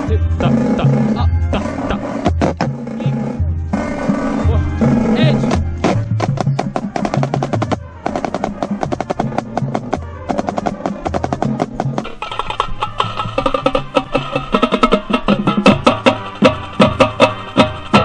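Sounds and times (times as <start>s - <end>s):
pitched bass drums: 0.0s - 18.0s
snare and tenor drums: 0.0s - 18.0s
sustained instrument notes: 0.0s - 18.0s.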